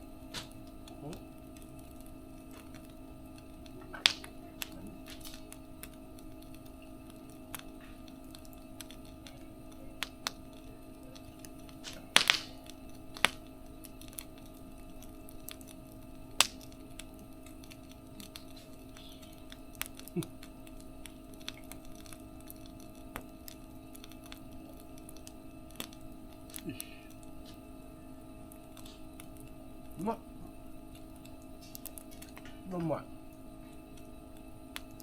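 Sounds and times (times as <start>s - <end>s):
steady low hum: 0.0s - 35.0s
wood fire crackling and popping: 0.0s - 35.0s.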